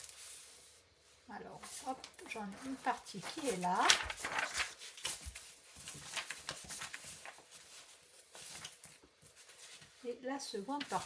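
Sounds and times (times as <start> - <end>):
paper rustling: 1.6 - 11.0.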